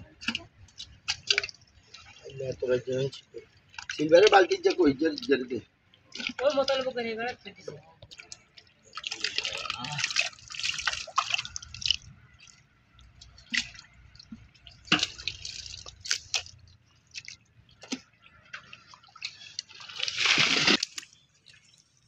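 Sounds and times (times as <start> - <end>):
water splashing and dripping: 0.0 - 22.0.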